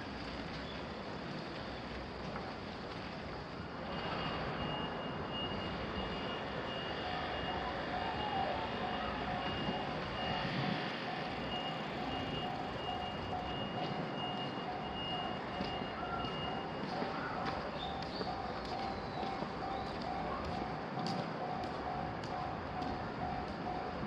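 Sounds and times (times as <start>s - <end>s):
high electronic warning tone: 3.9s - 24.0s.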